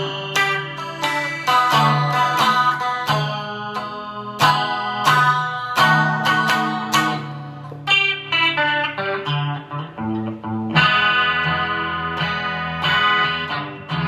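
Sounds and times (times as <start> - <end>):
distorted electric guitar: 0.0 - 14.0
picked guitar notes: 0.0 - 14.0.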